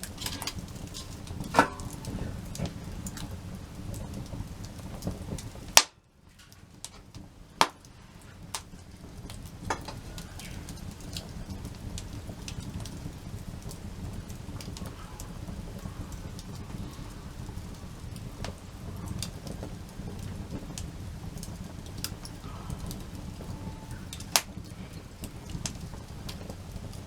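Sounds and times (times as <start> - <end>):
burning wood popping: 0.0 - 27.0
campfire crackling: 0.0 - 27.0.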